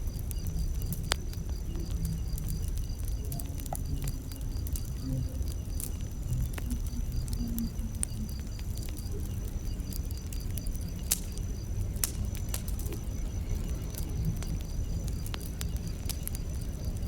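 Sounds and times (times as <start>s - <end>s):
crickets chirping: 0.0s - 17.0s
fire popping and snapping: 0.0s - 17.0s
low rumble of flames: 0.0s - 17.0s
wood fire crackling: 0.0s - 17.0s.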